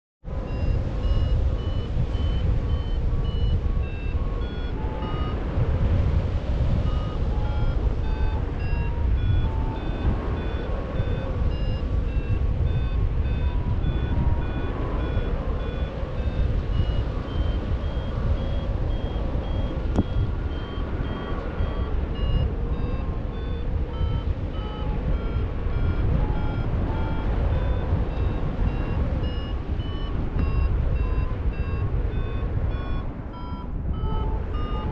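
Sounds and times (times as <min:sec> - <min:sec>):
wind on microphone: 0:00.3 - 0:34.9
variometer short beeps: 0:00.5 - 0:05.9, 0:06.6 - 0:34.9.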